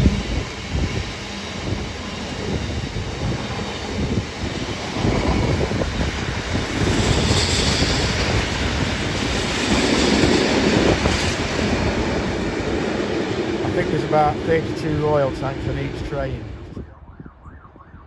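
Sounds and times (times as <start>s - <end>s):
train wheels rumbling on rails: 0.0s - 16.7s.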